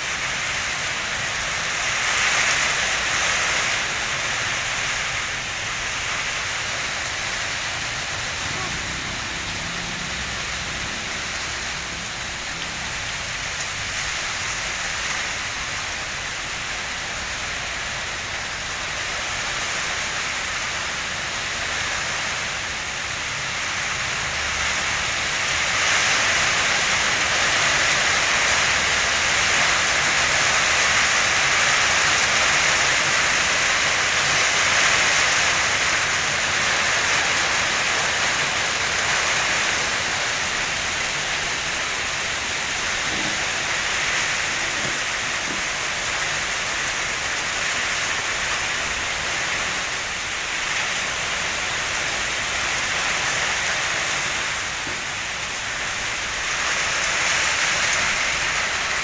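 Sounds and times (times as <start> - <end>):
steady rushing hiss: 0.0 - 59.0.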